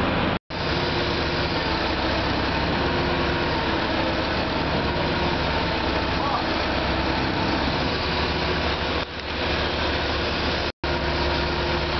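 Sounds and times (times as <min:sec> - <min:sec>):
machine engine idling: 0:00.1 - 0:11.9.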